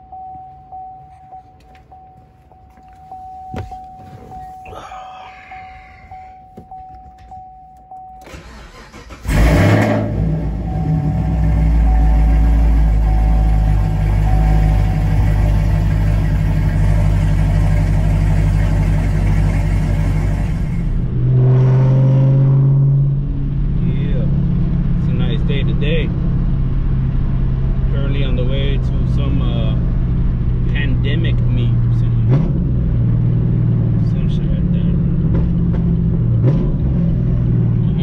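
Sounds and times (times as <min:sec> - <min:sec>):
car engine starting and idling: 0:00.0 - 0:38.0.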